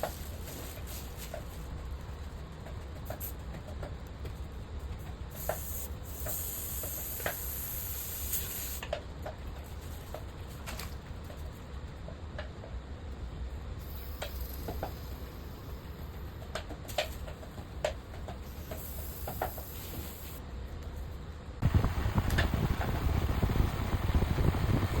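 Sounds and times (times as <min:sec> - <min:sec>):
air conditioner fan: 0:00.0 - 0:25.0.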